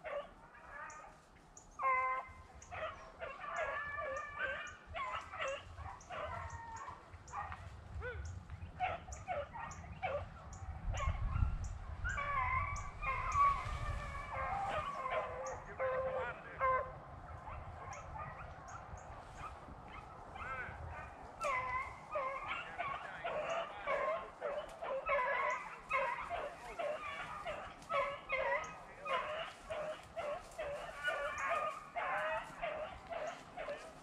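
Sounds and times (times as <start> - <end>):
hounds baying: 0.0 - 34.0.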